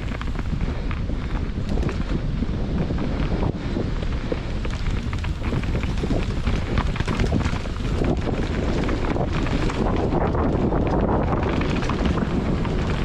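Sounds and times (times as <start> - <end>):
bike tyres rumbling on dirt trail: 0.0 - 13.0
wind buffeting microphone: 0.0 - 13.0.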